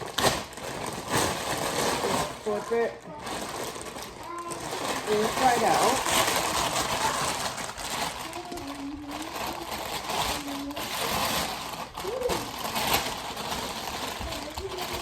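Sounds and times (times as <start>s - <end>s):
bag rustling and crinkling: 0.0s - 15.0s.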